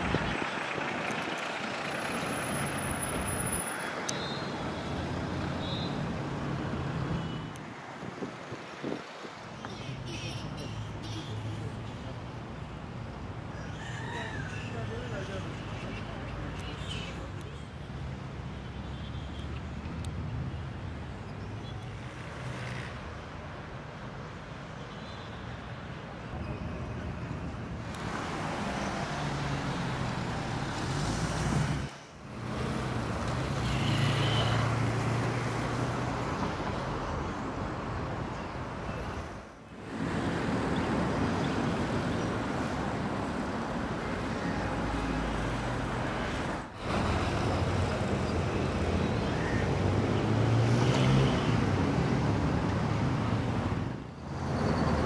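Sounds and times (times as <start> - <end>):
road traffic going by: 0.0 - 55.0.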